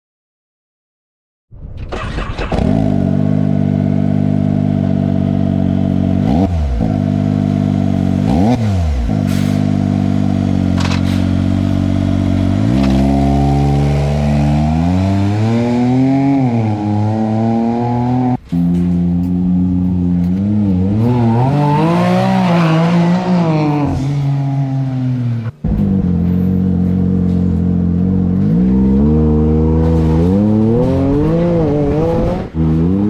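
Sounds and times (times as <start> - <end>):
engine idling and revving: 1.9 - 33.0.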